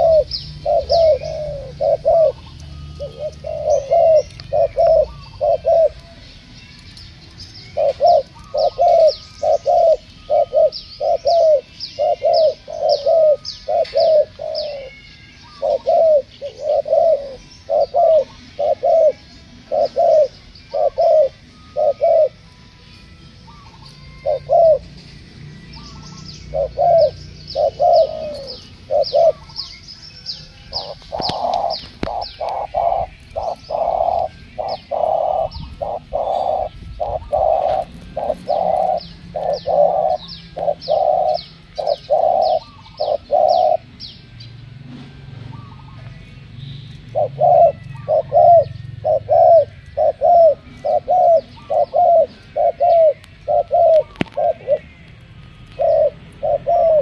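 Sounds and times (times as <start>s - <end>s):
doves cooing: 0.0s - 22.6s, 23.3s - 44.2s, 46.9s - 57.0s
small birds chirping: 0.0s - 57.0s.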